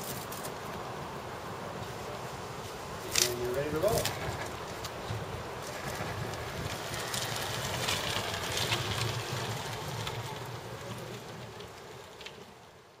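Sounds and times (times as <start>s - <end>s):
tyres rumbling on asphalt: 0.0s - 13.0s.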